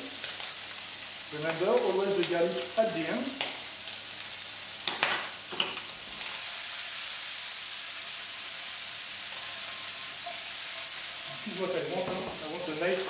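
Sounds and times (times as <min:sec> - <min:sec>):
seafood sizzling in a frying pan: 0:00.0 - 0:13.0.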